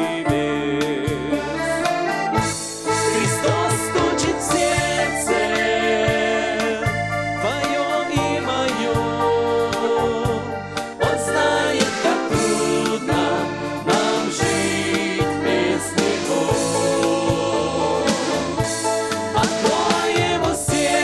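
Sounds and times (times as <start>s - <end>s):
band playing keyboard-led song: 0.0s - 21.0s.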